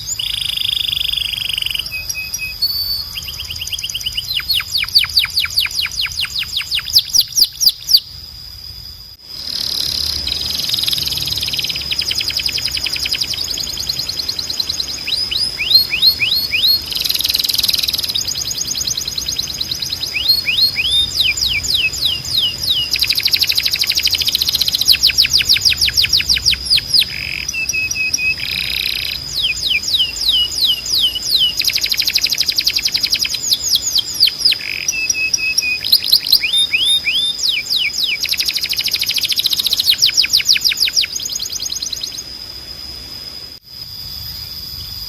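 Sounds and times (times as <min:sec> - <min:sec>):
canary singing trills: 0:00.0 - 0:08.2, 0:09.3 - 0:43.1.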